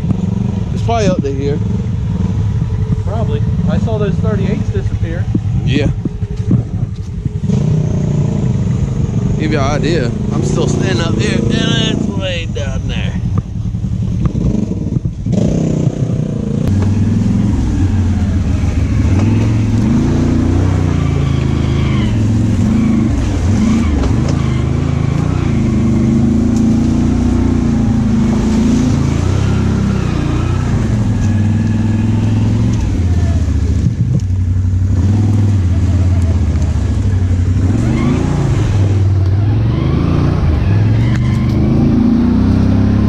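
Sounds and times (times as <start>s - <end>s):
atv engine revving: 0.0s - 43.0s.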